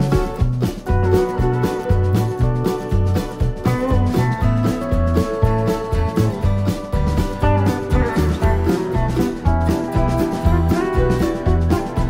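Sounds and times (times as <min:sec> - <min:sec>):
music with steady beat and bass: 0:00.0 - 0:12.0.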